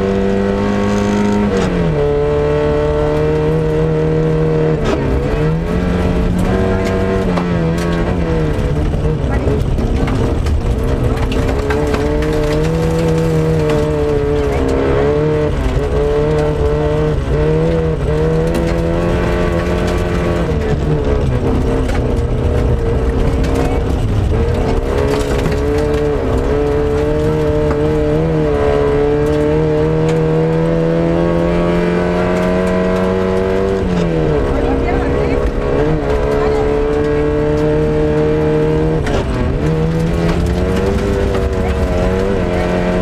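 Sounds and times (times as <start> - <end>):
car engine revving hard: 0.0 - 43.0.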